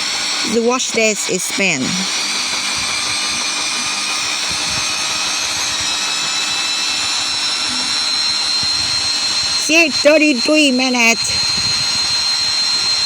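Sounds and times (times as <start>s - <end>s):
washing machine spin cycle: 0.0s - 13.0s.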